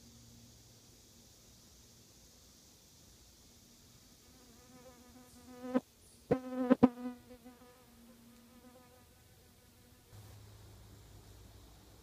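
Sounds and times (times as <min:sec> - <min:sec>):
insect buzzing: 0:00.0 - 0:10.5.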